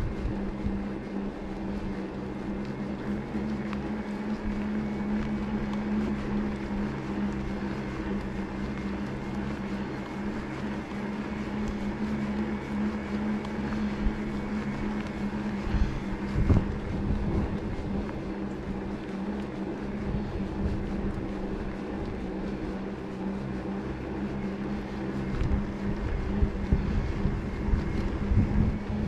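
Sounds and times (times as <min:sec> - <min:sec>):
electric bike motor whining: 0:00.0 - 0:29.0
wind: 0:00.0 - 0:29.0.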